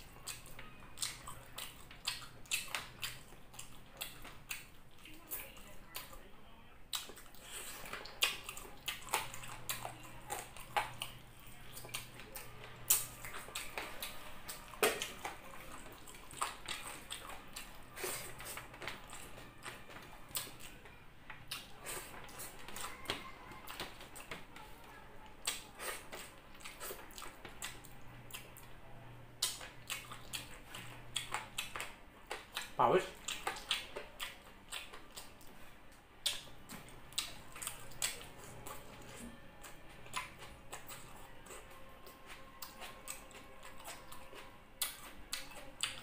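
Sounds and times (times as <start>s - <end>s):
wet chewing and lip smacking: 0.0s - 6.3s, 6.9s - 28.7s, 29.4s - 46.0s.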